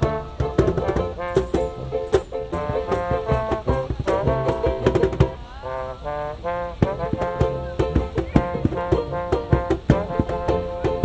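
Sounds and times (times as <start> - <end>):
street band playing a tune: 0.0 - 11.0
trombone: 0.0 - 11.0.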